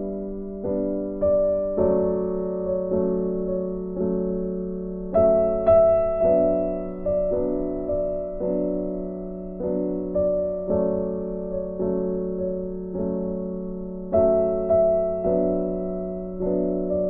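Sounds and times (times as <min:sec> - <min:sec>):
slow gentle piano piece: 0:00.0 - 0:17.0.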